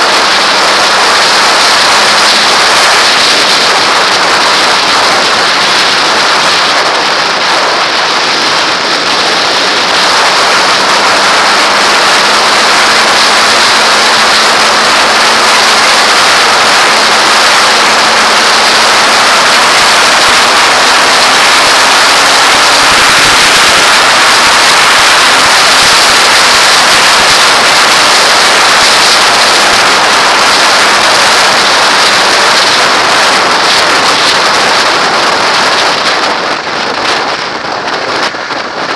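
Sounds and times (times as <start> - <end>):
motorcycle engine: 0.0 - 38.9
wind rushing over helmet: 0.0 - 38.9.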